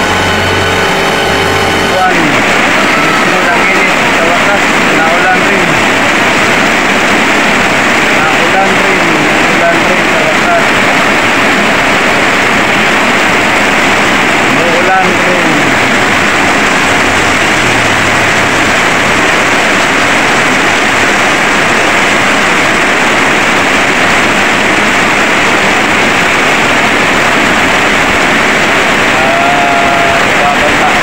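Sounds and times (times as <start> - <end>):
heavy rain on metal roofs: 0.0 - 31.0.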